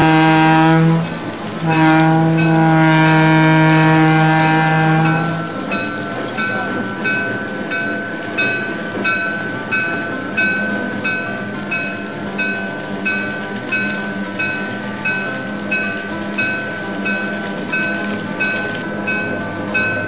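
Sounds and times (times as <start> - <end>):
model locomotive bell ringing: 0.0 - 20.0
motor and wheels rumbling on track: 0.0 - 20.0.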